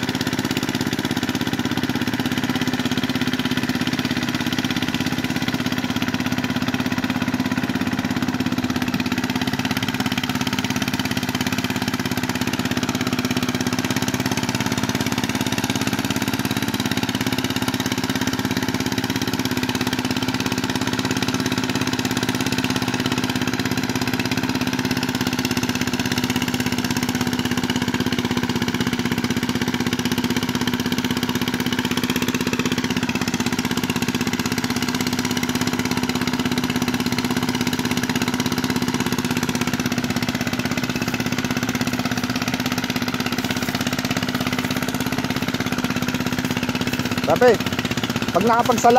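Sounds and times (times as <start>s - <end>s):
small engine droning: 0.0s - 48.9s.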